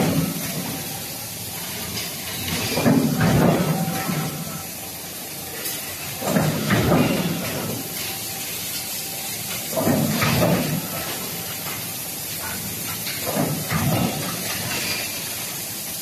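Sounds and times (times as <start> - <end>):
machinery hissing: 0.0 - 16.0.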